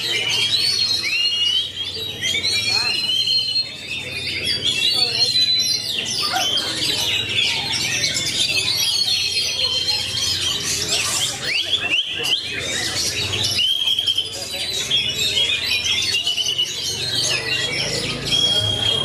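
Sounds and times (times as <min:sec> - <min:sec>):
bird singing chirps and whistles: 0:00.0 - 0:19.0.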